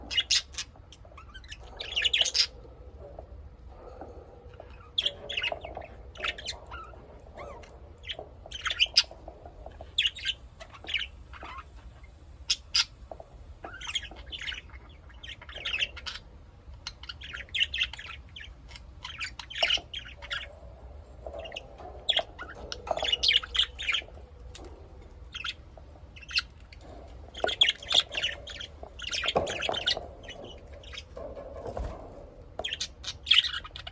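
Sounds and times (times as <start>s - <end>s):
lovebirds squawking and chirping: 0.0s - 33.9s.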